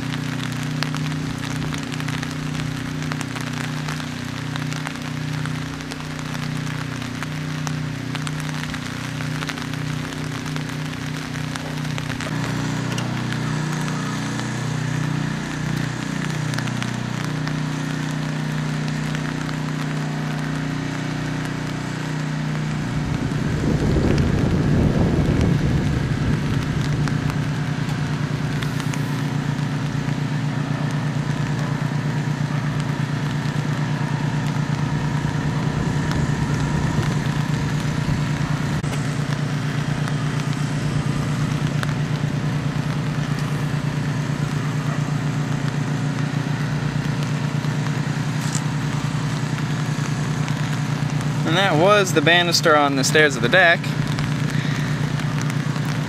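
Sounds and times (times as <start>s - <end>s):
fast low pulsing: 0.0s - 56.0s
low engine-like hum: 0.0s - 56.0s
noisy patter: 0.0s - 56.0s.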